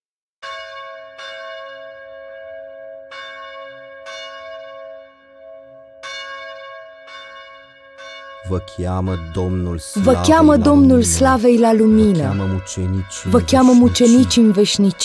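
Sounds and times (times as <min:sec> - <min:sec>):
church bell tolling: 0:00.4 - 0:15.0.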